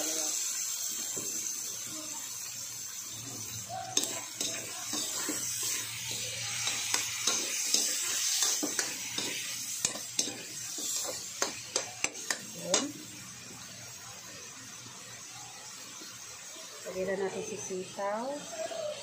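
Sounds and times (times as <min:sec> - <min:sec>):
food sizzling in a wok: 0:00.0 - 0:19.0.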